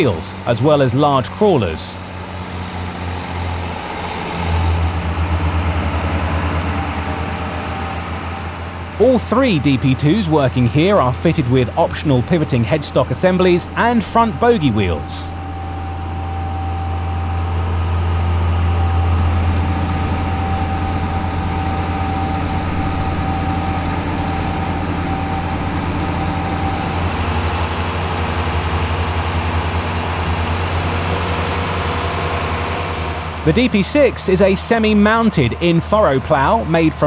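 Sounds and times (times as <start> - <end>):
diesel tractor engines under load: 0.0 - 37.0.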